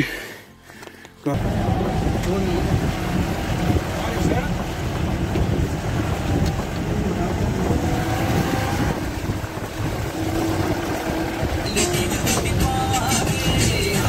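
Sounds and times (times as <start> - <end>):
vehicle driving on wet gravel: 1.3 - 14.0
wind buffeting microphone: 1.3 - 14.0.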